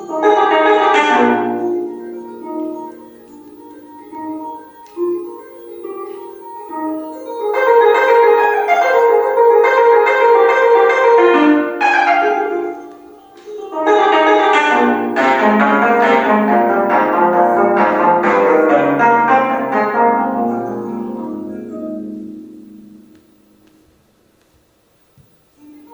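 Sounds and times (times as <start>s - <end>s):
plucked zither runs: 0.0s - 23.8s.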